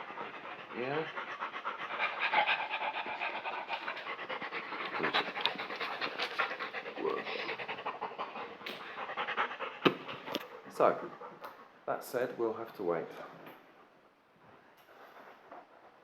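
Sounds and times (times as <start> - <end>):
dog panting: 0.0 - 12.3, 14.8 - 16.0.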